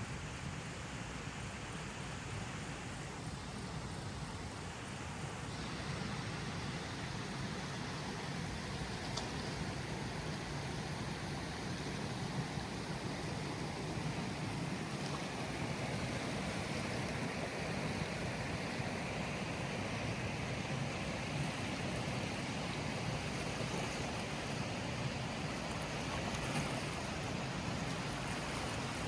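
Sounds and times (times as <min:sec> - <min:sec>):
river water flowing: 0:00.0 - 0:29.0.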